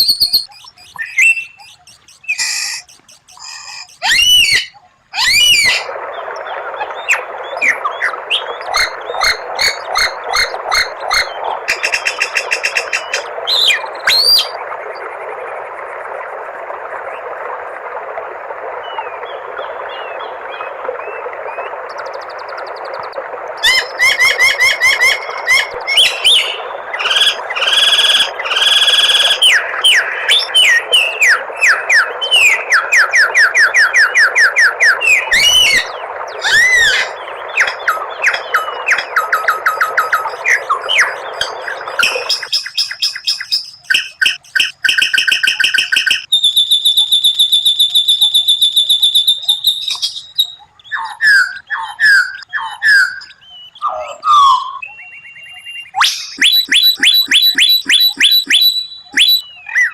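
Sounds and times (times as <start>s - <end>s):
songbird singing: 0.0s - 15.9s, 18.8s - 59.9s.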